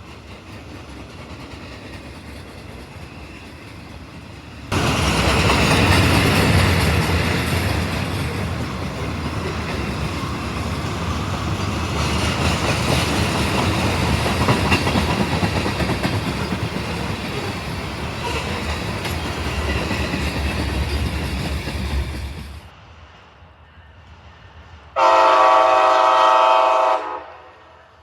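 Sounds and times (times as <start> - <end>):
train wheels on rails: 0.0 - 26.9.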